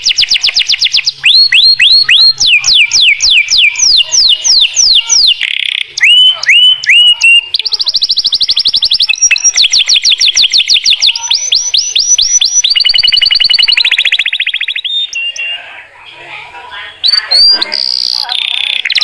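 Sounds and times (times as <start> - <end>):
canary singing: 0.0 - 19.0.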